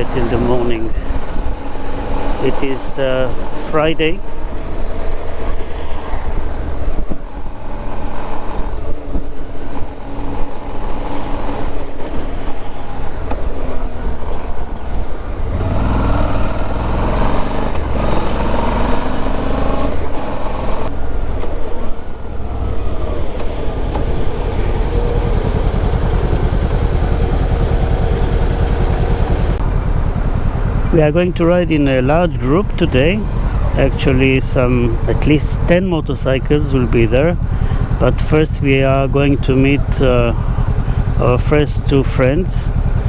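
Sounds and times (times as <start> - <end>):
motorcycle engine accelerating: 0.0 - 43.0
wind and road noise: 0.0 - 43.0.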